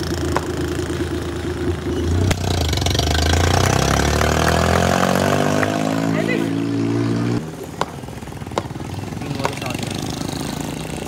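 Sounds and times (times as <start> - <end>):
vehicle engine speeding up: 0.0 - 11.0.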